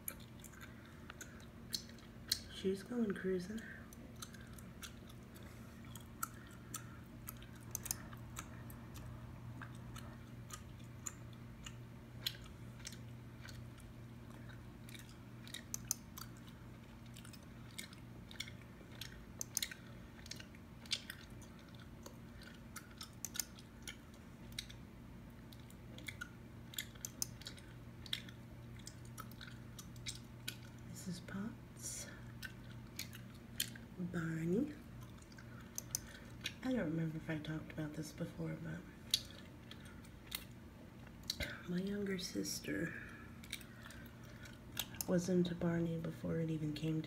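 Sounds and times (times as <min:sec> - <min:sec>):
gum chewing wet smacking: 0:00.0 - 0:30.9, 0:32.1 - 0:36.6, 0:39.0 - 0:41.6, 0:42.9 - 0:45.1
low hum: 0:00.0 - 0:47.0.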